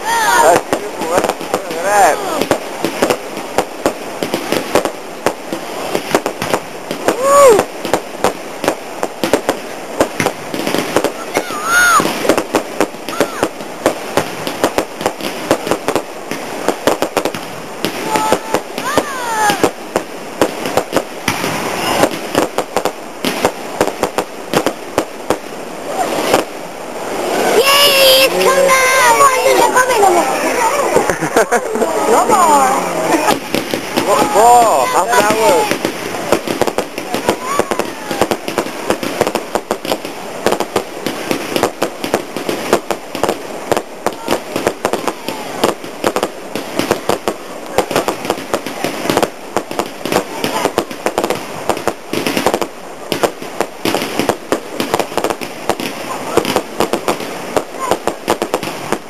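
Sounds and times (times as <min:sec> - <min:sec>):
crackling hiss: 0:00.0 - 0:59.0
fireworks bangs: 0:00.0 - 0:59.0.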